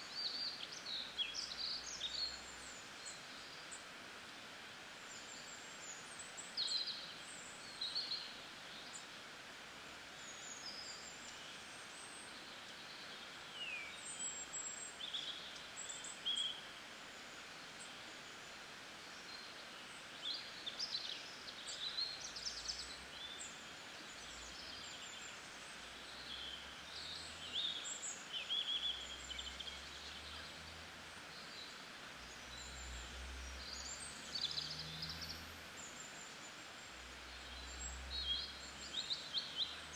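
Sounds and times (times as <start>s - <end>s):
soft outdoor hiss: 0.0s - 39.9s.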